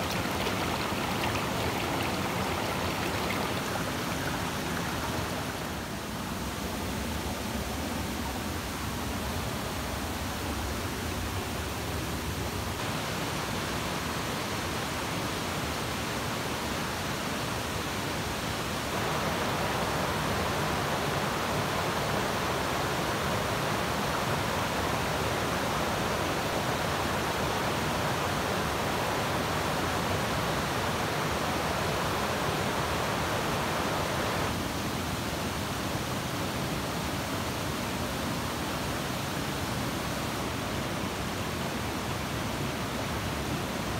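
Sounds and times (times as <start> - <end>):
stream water flowing over rocks: 0.0 - 7.4, 12.8 - 43.8.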